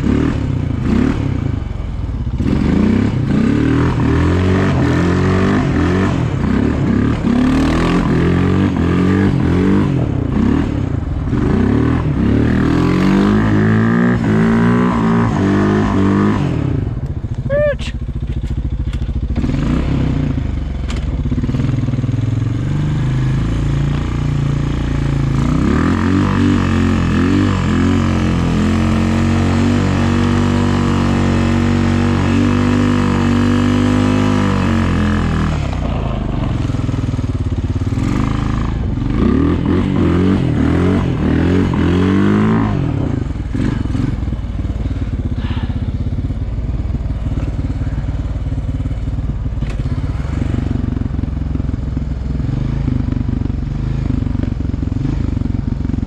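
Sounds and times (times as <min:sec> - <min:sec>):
snowplow engine revving: 0:00.0 - 0:17.8, 0:19.3 - 0:55.9.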